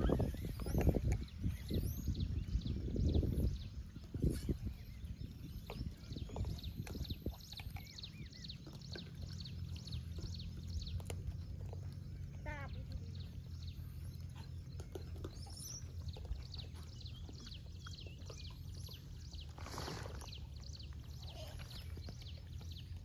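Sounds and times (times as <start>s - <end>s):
steady low rumble: 0.0s - 19.6s
small birds chirping: 0.0s - 23.0s.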